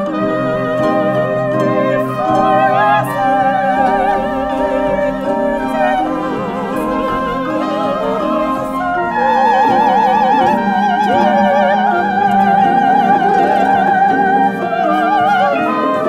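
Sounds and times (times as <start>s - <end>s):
chamber ensemble with harp: 0.0s - 16.0s
women singing opera: 0.0s - 16.0s.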